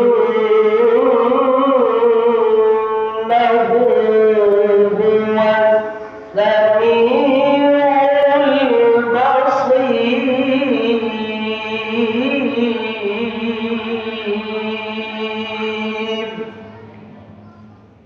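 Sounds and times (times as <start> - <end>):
man reciting melodically: 0.0 - 16.7.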